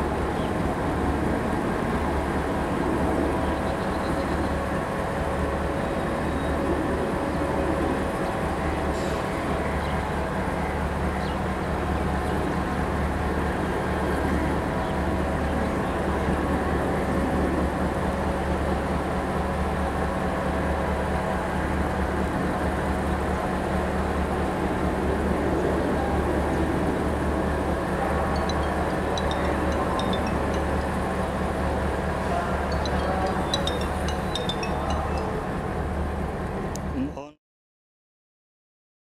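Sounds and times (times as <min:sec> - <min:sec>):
train rumbling and droning: 0:00.0 - 0:37.0.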